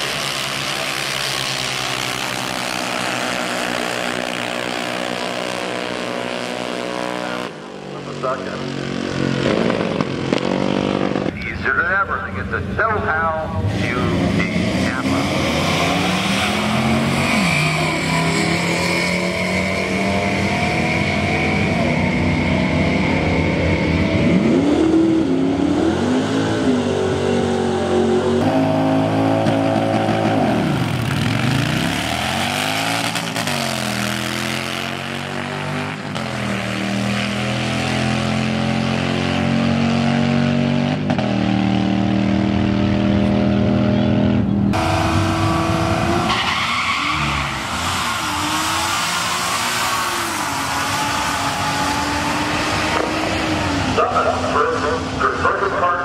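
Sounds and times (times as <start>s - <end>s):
drag racing car engines revving: 0.0s - 56.0s.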